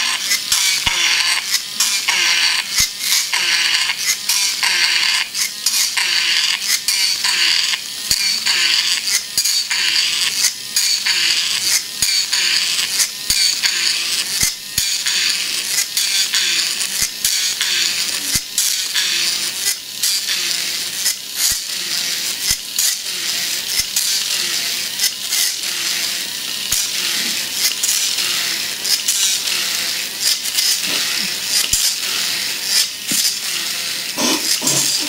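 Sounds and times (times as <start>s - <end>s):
small electric motors whirring: 0.0s - 35.0s.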